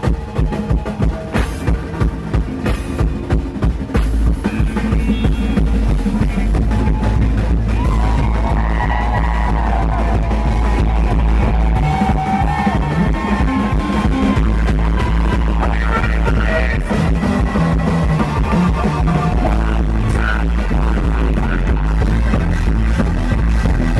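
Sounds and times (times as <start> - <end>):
dense drumming: 0.0 - 23.9
sousaphone keyboard and bass: 1.3 - 23.9.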